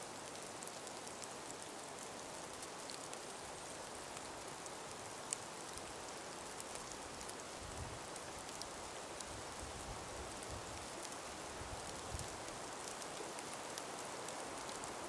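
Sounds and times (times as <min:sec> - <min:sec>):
small ticks and patters: 0:00.0 - 0:15.0
soft breeze hiss: 0:00.0 - 0:15.0.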